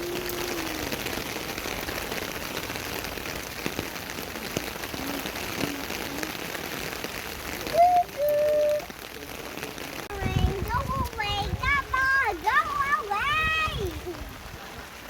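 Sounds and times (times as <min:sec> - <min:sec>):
rain on a hard surface: 0:00.0 - 0:15.0
raindrops ticking: 0:00.0 - 0:15.0.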